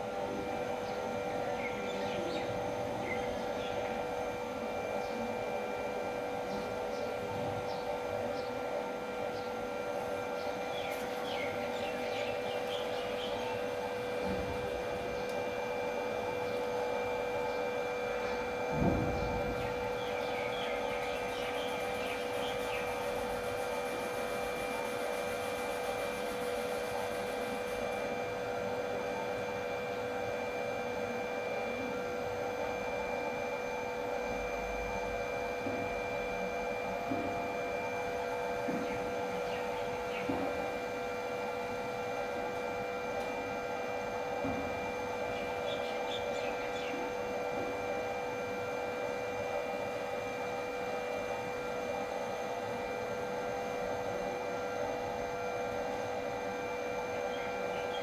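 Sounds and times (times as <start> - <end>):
electric blower humming: 0.0 - 58.0.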